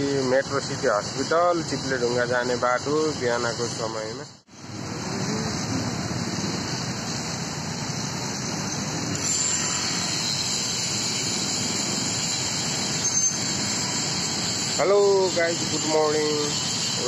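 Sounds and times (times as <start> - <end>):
motorcycles passing: 0.0 - 16.4
street traffic: 0.0 - 17.0.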